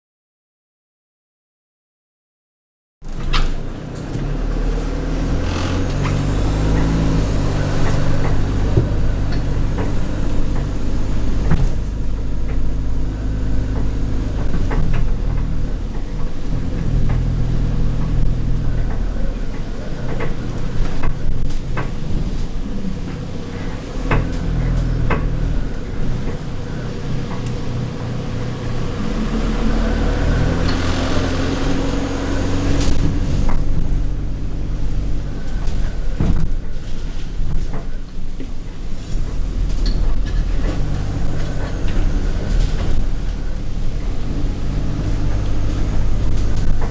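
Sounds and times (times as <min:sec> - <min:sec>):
bus engine running: 0:03.0 - 0:46.9
bus interior rattles and clicks: 0:03.0 - 0:46.9.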